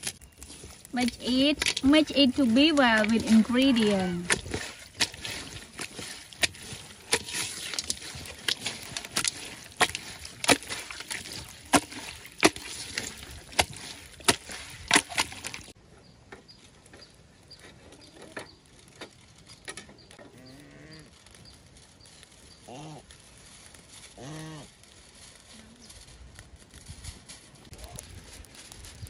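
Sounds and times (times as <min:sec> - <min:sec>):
wet rustling of mixing by hand: 0:00.0 - 0:15.8, 0:20.8 - 0:29.0.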